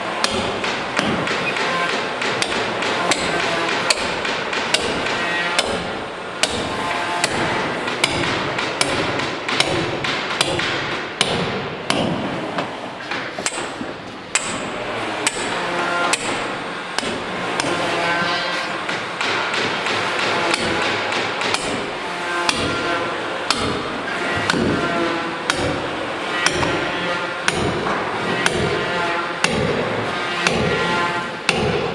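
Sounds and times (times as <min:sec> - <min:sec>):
constant background noise: 0:00.0 - 0:31.9.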